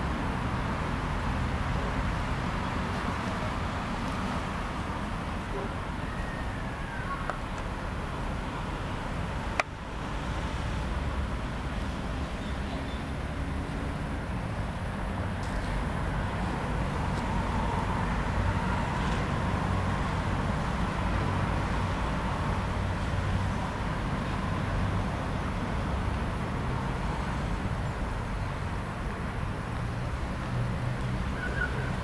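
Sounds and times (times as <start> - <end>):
distant road traffic rumble: 0.0 - 32.0.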